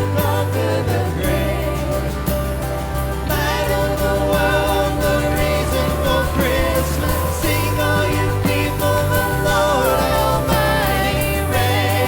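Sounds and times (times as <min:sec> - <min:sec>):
person singing: 0:00.0 - 0:02.4, 0:03.3 - 0:12.0
worship band music: 0:00.0 - 0:12.0.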